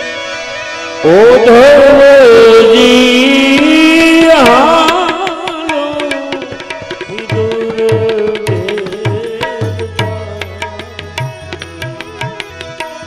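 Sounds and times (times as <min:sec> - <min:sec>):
sustained melody line: 0:00.9 - 0:13.0
tabla rhythm: 0:01.1 - 0:13.0.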